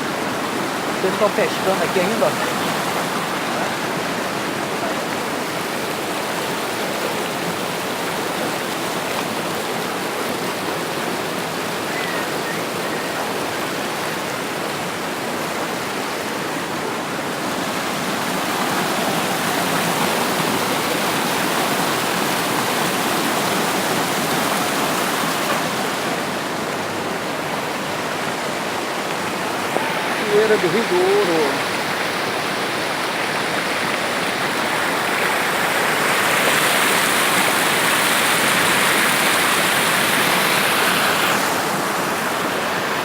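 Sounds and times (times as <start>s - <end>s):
waterfall and river rushing: 0.0s - 43.0s.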